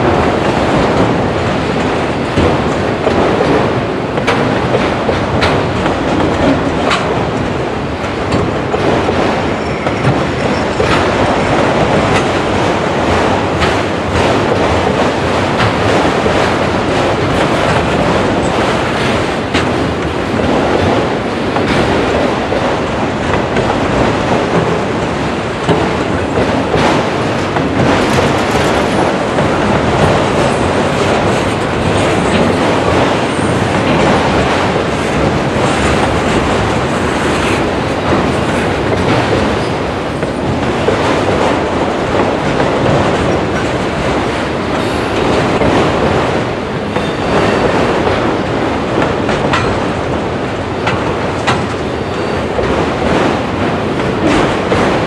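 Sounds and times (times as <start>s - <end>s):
steel wheels rumbling on rails: 0.0s - 55.0s
wheels clicking over rail joints: 0.0s - 55.0s.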